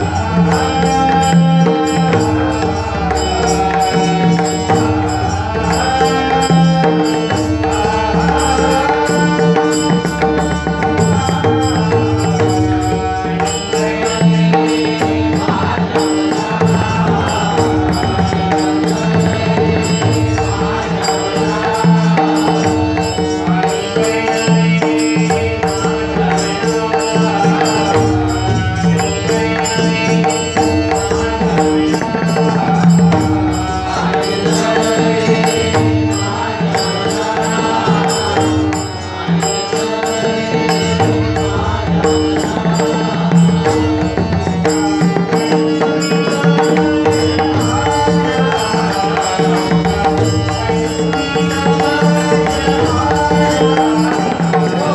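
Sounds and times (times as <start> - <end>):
man singing devotional song: 0.0 - 54.9.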